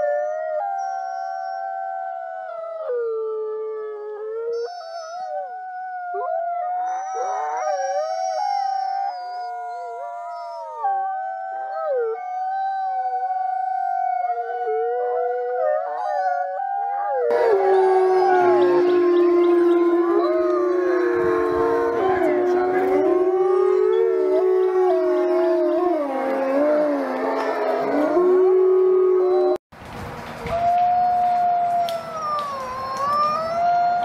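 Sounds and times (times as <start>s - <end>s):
wolves howling: 0.0s - 29.6s, 30.5s - 34.0s.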